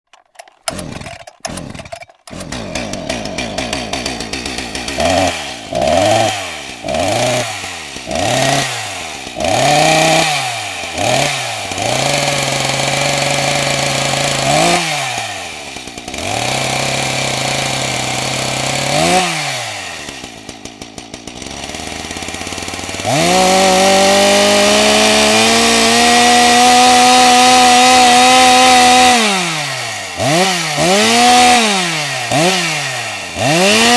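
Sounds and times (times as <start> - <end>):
chainsaw engine revving: 0.1 - 33.9.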